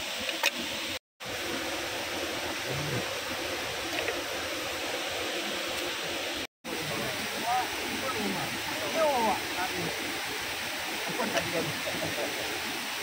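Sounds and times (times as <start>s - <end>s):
waterfall and river rushing: 0.0s - 13.0s.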